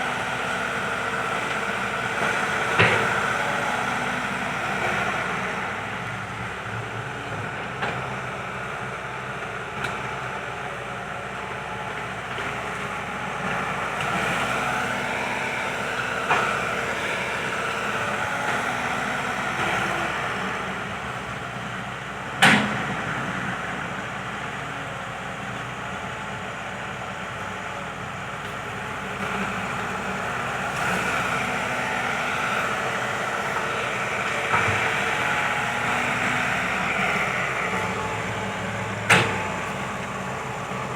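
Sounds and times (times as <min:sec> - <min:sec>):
excavator running: 0:00.0 - 0:40.9.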